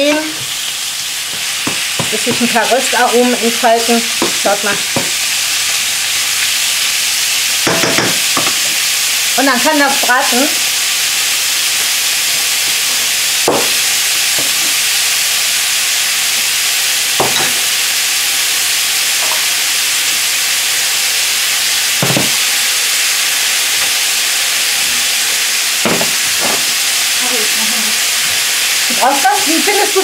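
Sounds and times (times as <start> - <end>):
beef frying in hot oil: 0.0 - 30.0.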